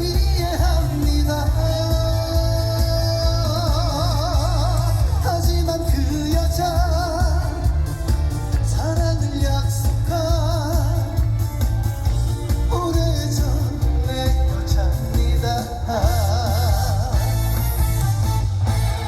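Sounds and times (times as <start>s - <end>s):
man singing with vibrato: 0.0s - 18.8s
amplified backing music with bass: 0.0s - 19.0s.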